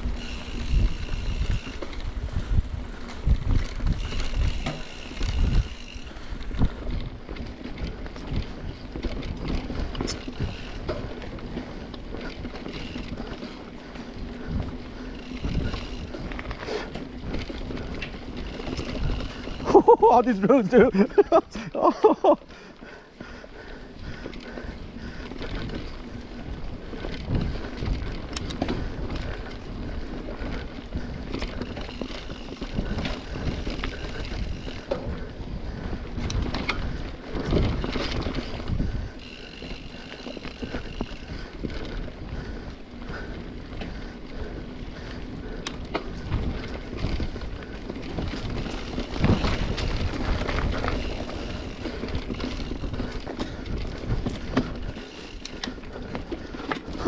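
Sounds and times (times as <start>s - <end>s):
bike rolling on dirt trail: 0.0s - 57.0s
wheels knocking and rattling on roots: 0.0s - 57.0s.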